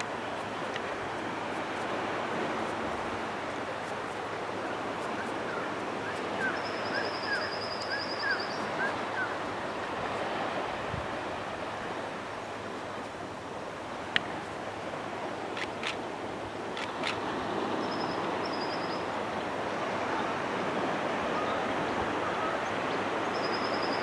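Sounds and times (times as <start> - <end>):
surf washing onto a beach: 0.0 - 24.0.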